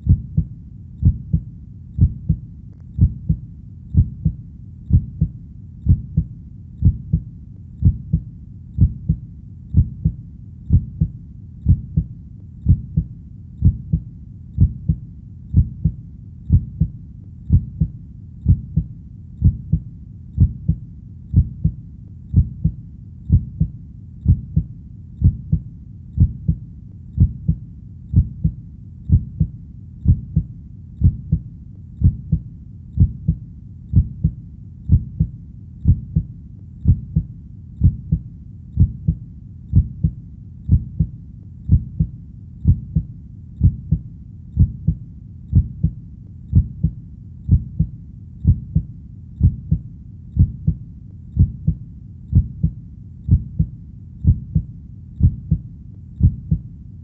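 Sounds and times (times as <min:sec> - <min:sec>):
heartbeat double thumps: 0:00.0 - 0:26.6, 0:27.2 - 0:56.7
faint low background noise: 0:00.0 - 0:57.0.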